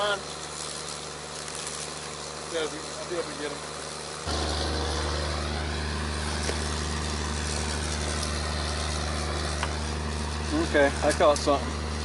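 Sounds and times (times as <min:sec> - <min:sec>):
engine hum in truck cab: 0:00.0 - 0:12.0.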